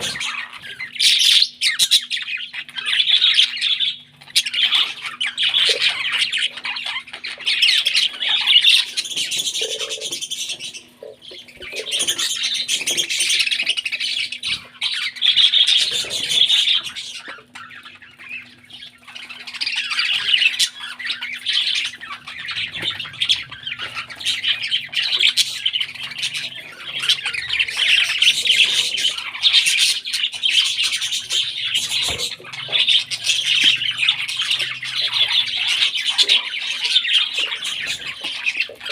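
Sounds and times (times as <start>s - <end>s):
parrot chicks begging squawks: 0.0s - 38.9s.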